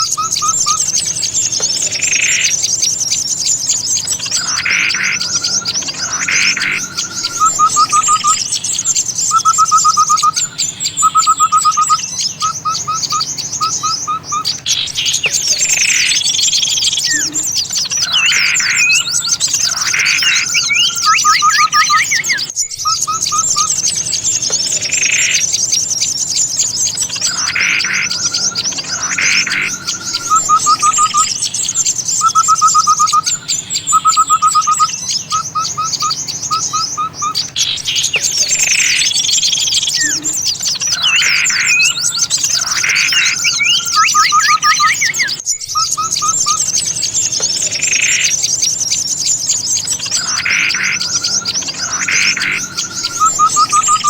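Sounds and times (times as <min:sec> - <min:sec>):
bird calls and chatters: 0:00.0 - 0:54.0
bird trills: 0:00.0 - 0:54.0
songbirds twittering: 0:00.0 - 0:54.0.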